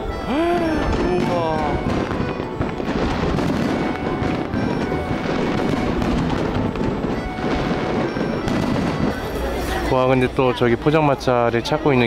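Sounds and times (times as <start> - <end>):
fireworks bursting: 0.0 - 10.3
music playing: 0.0 - 12.0.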